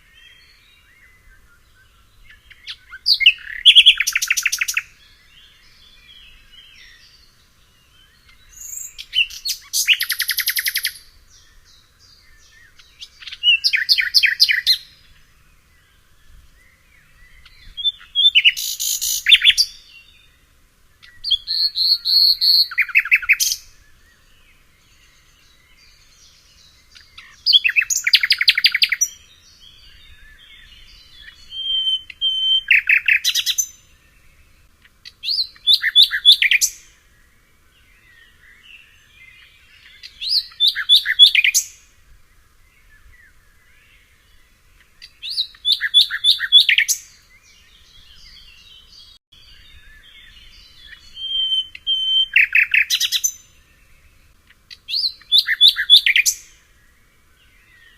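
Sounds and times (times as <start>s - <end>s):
faint bird chirps: 0.0s - 57.9s
songbird singing rapid notes: 0.0s - 57.9s.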